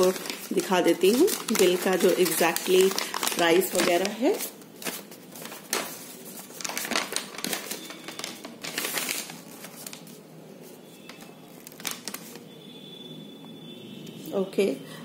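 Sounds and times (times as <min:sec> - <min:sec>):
paper rustling and crinkling: 0:00.0 - 0:12.5.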